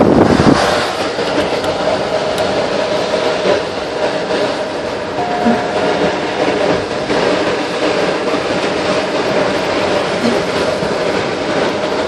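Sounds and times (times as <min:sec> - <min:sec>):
tyres hissing on wet road: 0:00.0 - 0:12.0.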